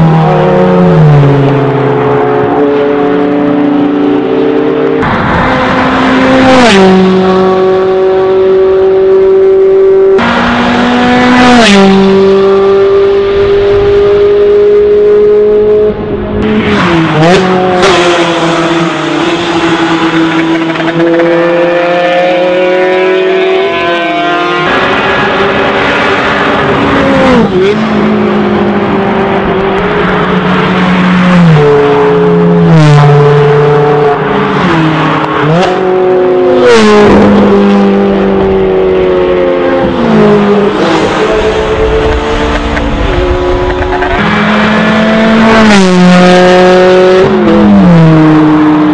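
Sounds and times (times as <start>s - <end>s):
sports car engines accelerating: 0.0s - 48.9s.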